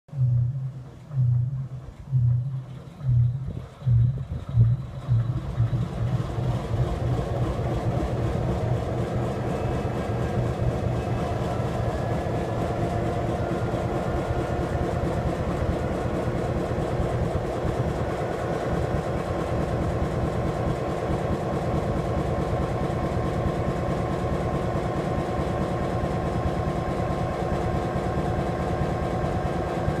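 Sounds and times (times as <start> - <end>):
diesel engine starting and idling: 0.1 - 30.0.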